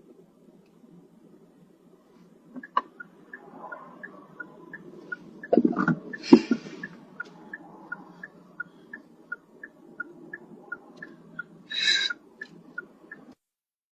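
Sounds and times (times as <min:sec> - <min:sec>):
turn signal ticking: 0:00.0 - 0:13.4.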